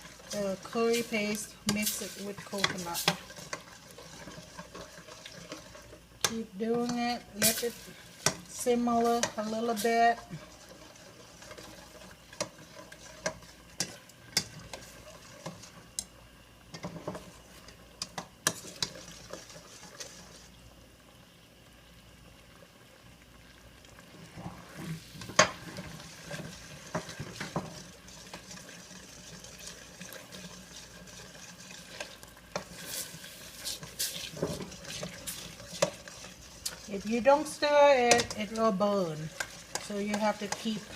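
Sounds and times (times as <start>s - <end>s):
utensil stirring and scraping: 0.0s - 16.1s, 16.7s - 20.5s, 24.3s - 40.9s
curry sizzling in a frying pan: 0.0s - 40.9s.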